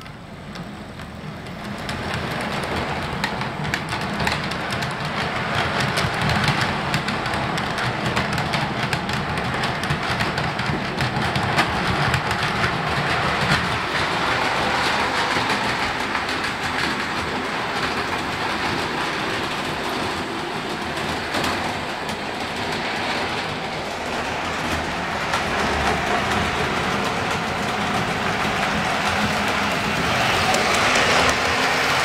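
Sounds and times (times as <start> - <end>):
clicking over rail joints: 0.0 - 32.0.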